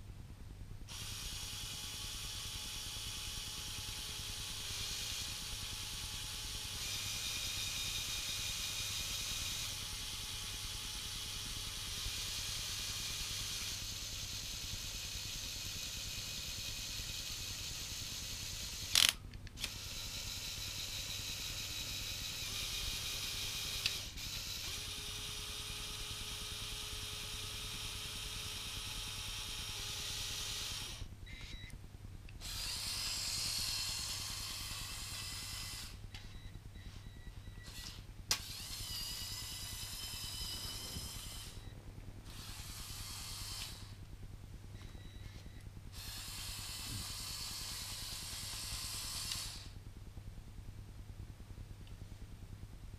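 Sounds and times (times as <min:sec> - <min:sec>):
toy motors and gears whirring: 0:00.9 - 0:31.7, 0:32.4 - 0:44.1, 0:44.8 - 0:49.8.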